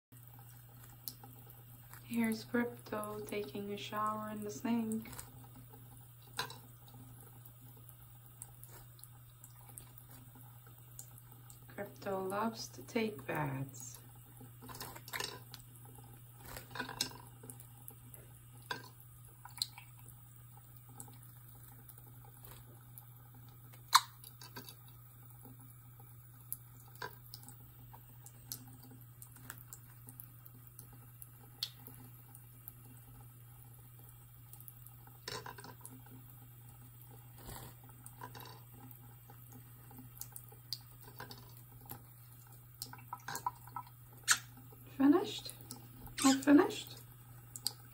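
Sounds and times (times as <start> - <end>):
tap water trickling: 0.2 - 47.9.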